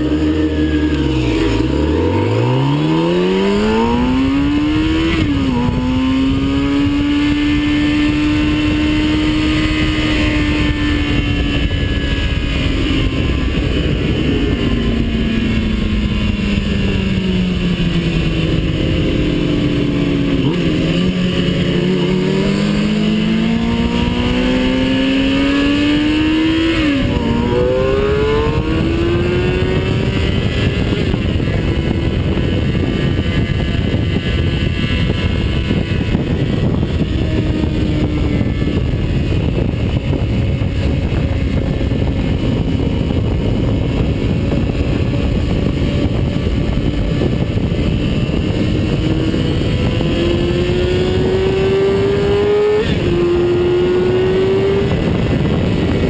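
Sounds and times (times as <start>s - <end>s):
vehicle engine revving: 0.0s - 56.0s
wind and road rush: 0.0s - 56.0s.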